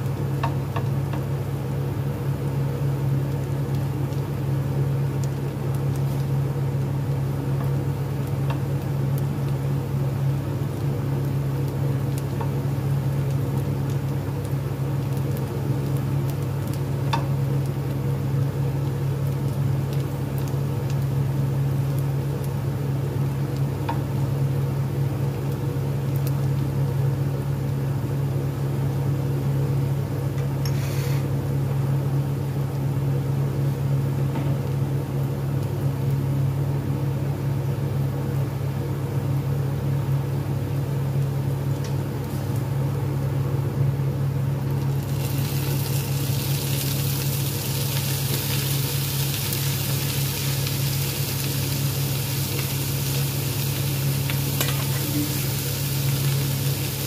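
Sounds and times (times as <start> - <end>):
onion sizzling in oil: 0.0 - 38.0, 39.5 - 57.0
low machine hum: 0.0 - 57.0.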